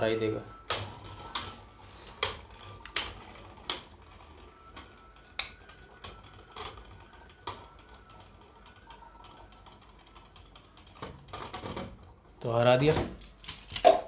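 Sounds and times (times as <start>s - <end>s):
spinning tops whirring: 0.0s - 12.4s.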